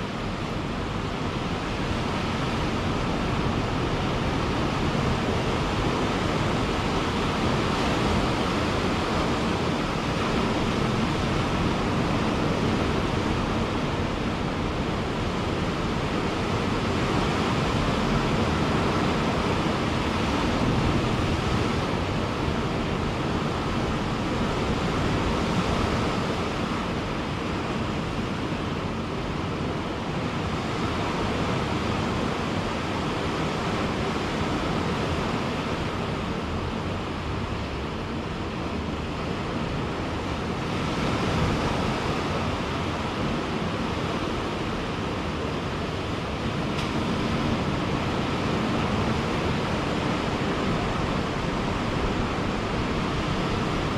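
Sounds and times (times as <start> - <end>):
ocean waves breaking: 0.0 - 53.9
wind on microphone: 0.0 - 53.9.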